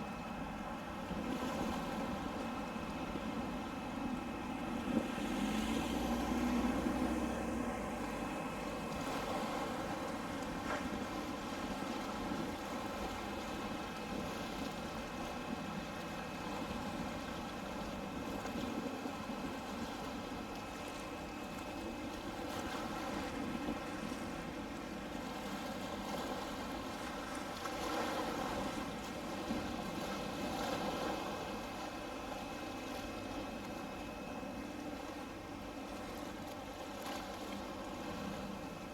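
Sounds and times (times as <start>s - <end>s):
boat engine humming: 0.0s - 38.9s
water noise: 0.0s - 38.9s
wind: 0.0s - 38.9s.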